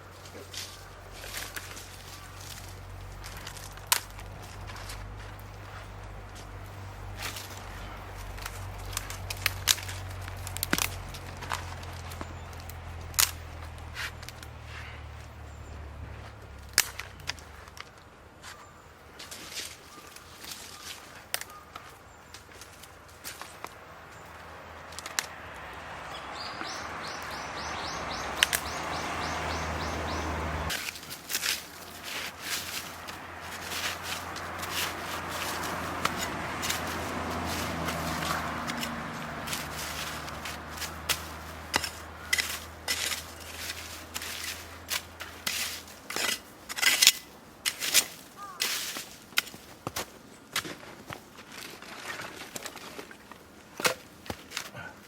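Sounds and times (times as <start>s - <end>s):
dry wood cracking and snapping: 0.0s - 15.4s, 16.0s - 18.1s, 19.2s - 25.8s, 28.2s - 54.9s.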